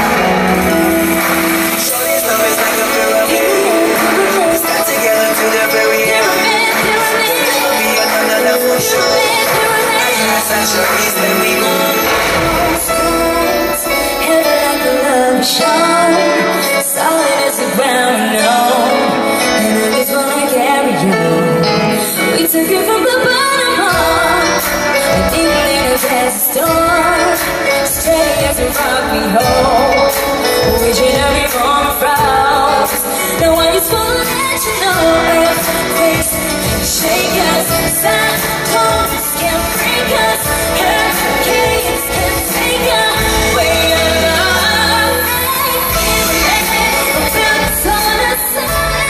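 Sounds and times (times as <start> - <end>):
piano and band accompaniment: 0.0 - 49.0
woman singing a pop ballad: 0.0 - 49.0.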